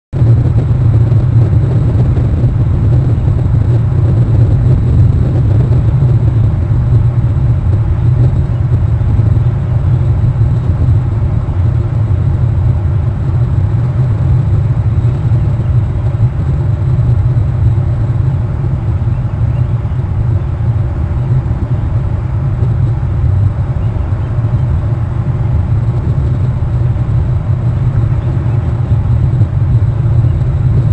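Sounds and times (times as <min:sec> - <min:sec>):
low outdoor rumble: 0:00.1 - 0:30.9.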